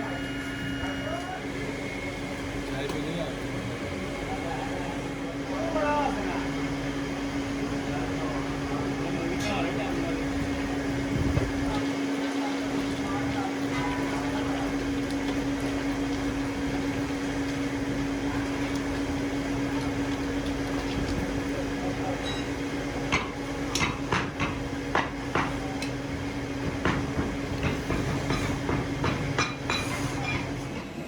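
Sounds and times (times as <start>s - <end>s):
workshop machine humming: 0.0s - 31.0s.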